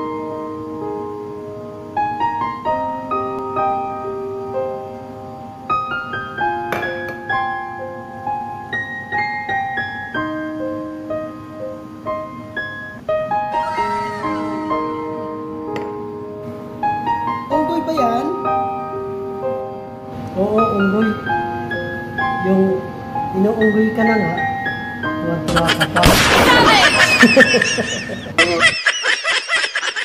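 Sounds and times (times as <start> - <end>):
solo piano music: 0.0 - 26.0.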